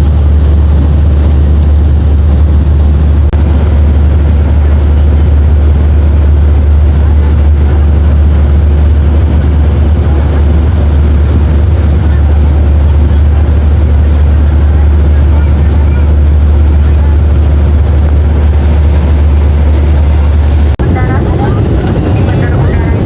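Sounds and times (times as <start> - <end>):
airflow rush: 0.0 - 23.0
airplane cabin engine drone: 0.0 - 23.0.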